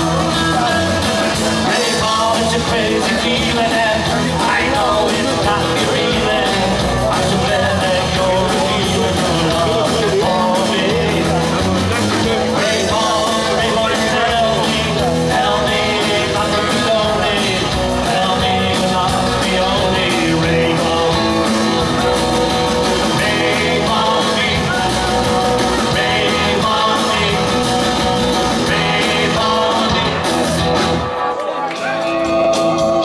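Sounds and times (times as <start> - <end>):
electric guitar: 0.0 - 33.0
live rock band playing: 0.0 - 33.0
person singing: 0.0 - 33.0.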